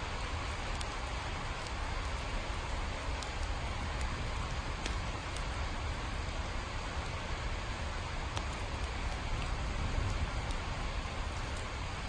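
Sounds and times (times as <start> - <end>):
raindrop ticks: 0.0 - 12.0
steady rain: 0.0 - 12.0.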